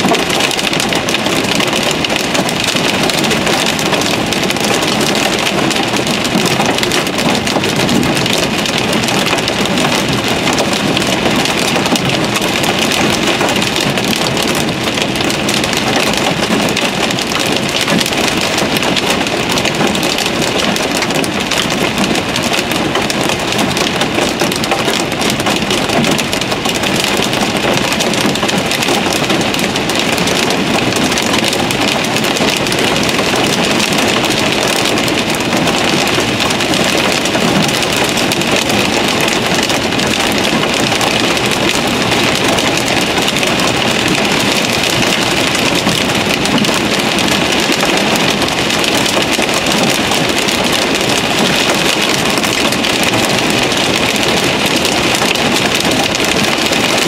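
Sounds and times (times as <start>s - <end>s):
hail pattering on car roof: 0.0s - 57.0s.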